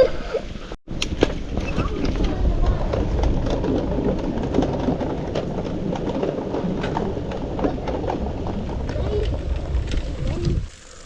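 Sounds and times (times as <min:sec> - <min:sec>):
wind and tyre rumble: 0:00.9 - 0:11.0
bicycle clicks and rattles: 0:01.0 - 0:11.0.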